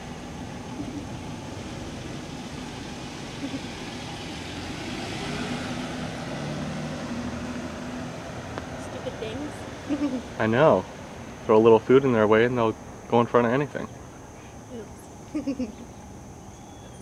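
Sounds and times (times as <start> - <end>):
car engine passing: 0.0 - 15.2
tyre noise on road: 0.0 - 17.0.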